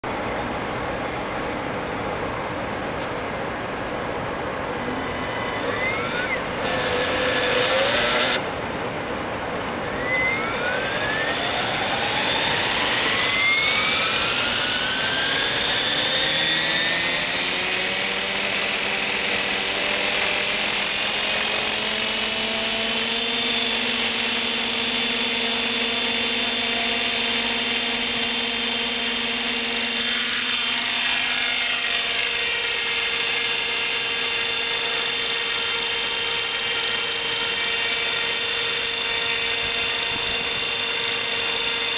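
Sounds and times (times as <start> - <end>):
model helicopter rotor whine: 3.9 - 41.9.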